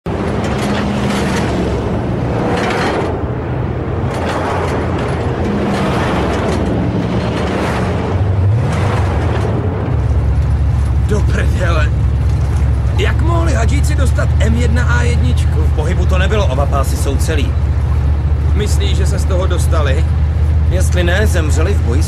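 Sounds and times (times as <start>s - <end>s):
diesel engines droning: 0.0s - 22.0s
road and wind noise: 0.0s - 22.0s
engine revving: 0.1s - 22.0s.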